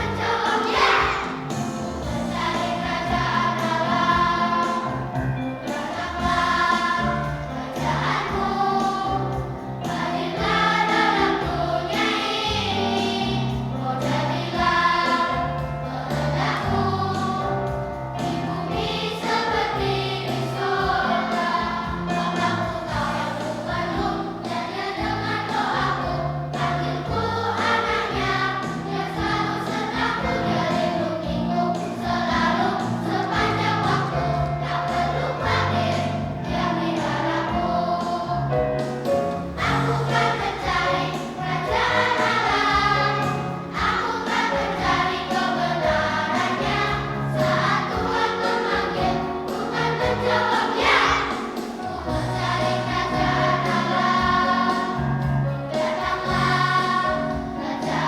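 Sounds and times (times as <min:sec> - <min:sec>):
church choir singing a hymn: 0:00.0 - 0:58.0
instrumental accompaniment: 0:00.0 - 0:58.0.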